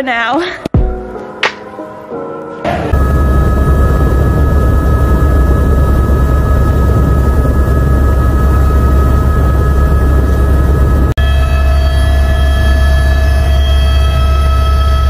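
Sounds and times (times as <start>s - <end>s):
constant high whine: 2.9s - 15.0s
helicopter engine and rotor: 2.9s - 15.0s.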